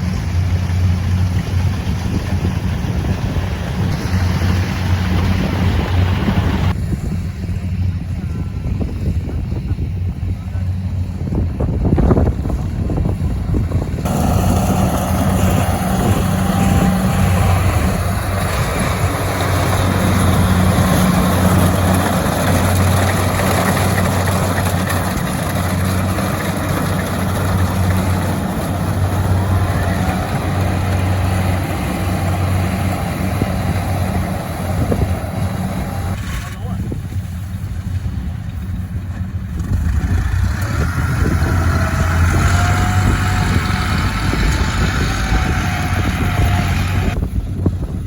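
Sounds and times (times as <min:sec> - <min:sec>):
engine humming: 0:00.0 - 0:48.0.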